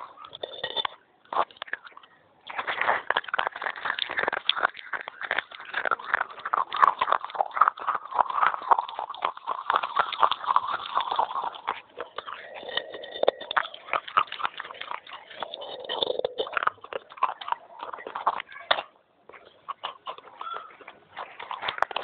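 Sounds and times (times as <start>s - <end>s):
person chewing crunchy clay: 0.0s - 22.0s.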